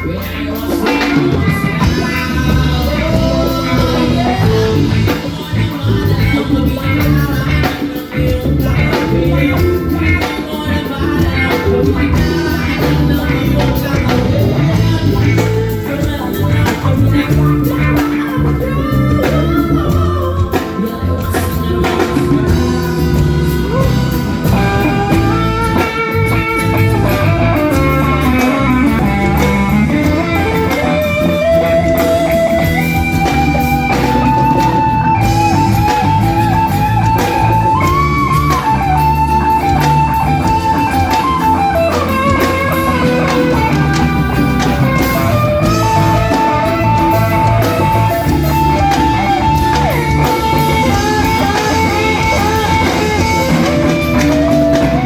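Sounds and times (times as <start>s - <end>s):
guitar melody: 0.0s - 55.0s
live band playing: 0.0s - 55.0s.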